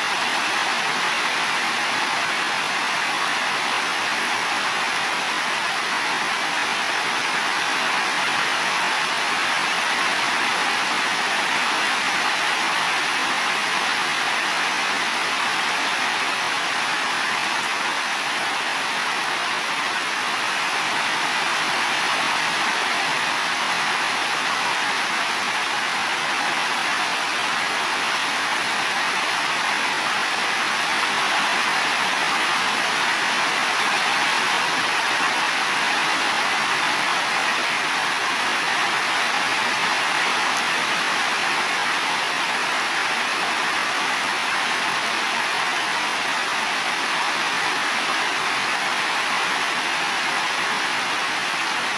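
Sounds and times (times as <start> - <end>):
heavy rain on roofs: 0.0 - 51.9.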